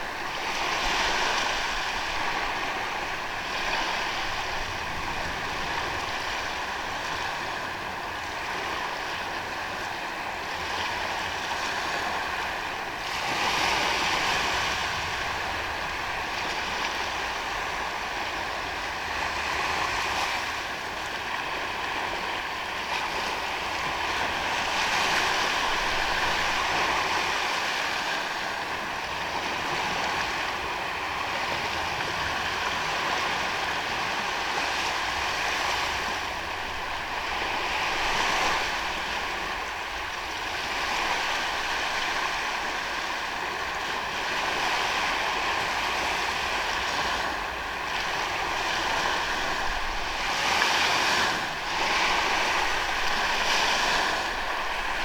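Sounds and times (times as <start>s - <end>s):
surf breaking on sandy beach: 0.0s - 55.0s.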